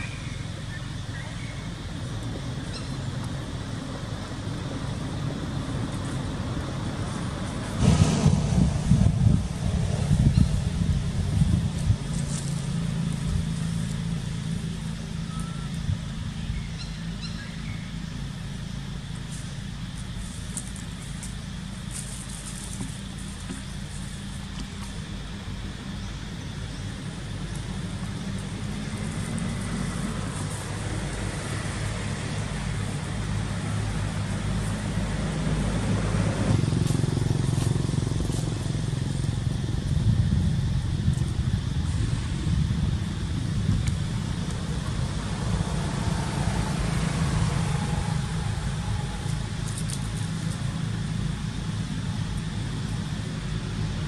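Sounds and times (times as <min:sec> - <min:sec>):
motor engine rumbling: 0:00.0 - 0:54.0.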